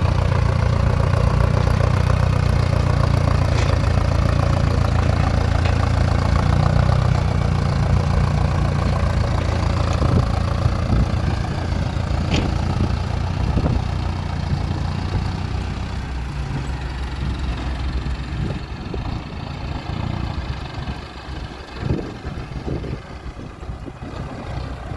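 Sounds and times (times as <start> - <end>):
diesel engine rumbling: 0.0 - 24.9.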